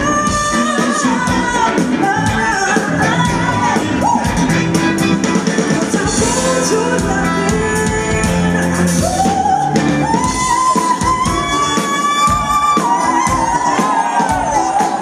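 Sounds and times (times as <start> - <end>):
live band playing: 0.0 - 15.0
steady drum beat: 0.0 - 15.0
woman singing: 0.0 - 15.0.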